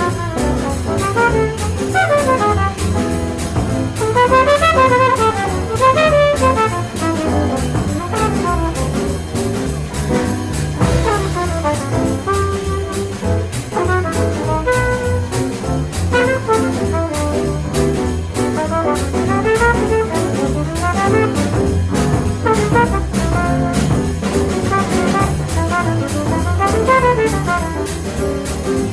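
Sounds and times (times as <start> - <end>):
trumpet improvising: 0.0 - 9.4, 10.8 - 28.2
walking bass line: 0.0 - 28.9.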